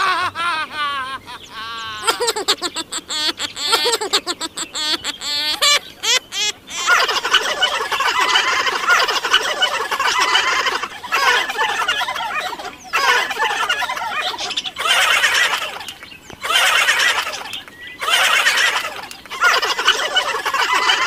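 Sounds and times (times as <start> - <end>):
budgerigars chattering and warbling: 1.4 - 21.0.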